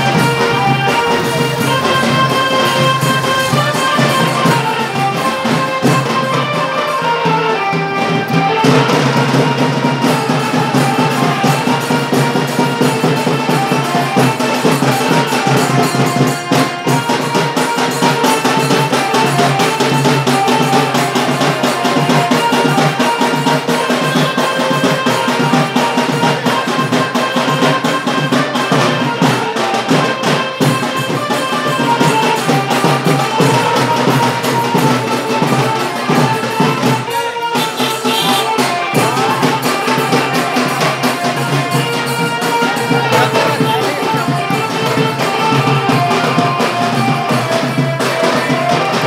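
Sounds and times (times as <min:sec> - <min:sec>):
loud music with steady drumbeat: 0:00.0 - 0:49.0.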